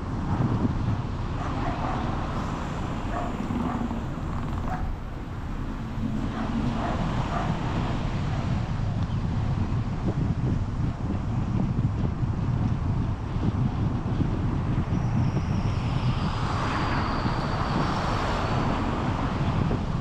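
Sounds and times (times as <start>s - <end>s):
vehicle rumble: 0.0s - 20.0s
wind noise: 0.0s - 20.0s.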